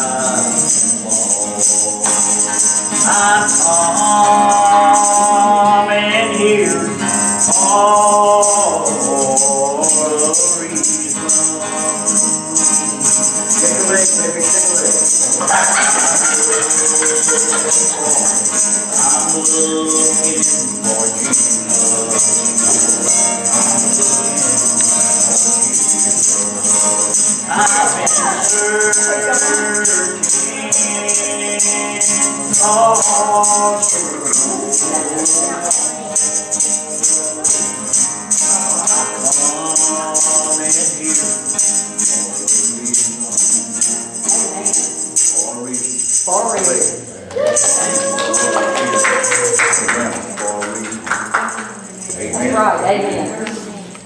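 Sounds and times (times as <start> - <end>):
tambourine shaken and struck: 0.0 - 53.4
acoustic guitar strummed: 0.0 - 53.9
voices singing gospel song: 0.0 - 54.0.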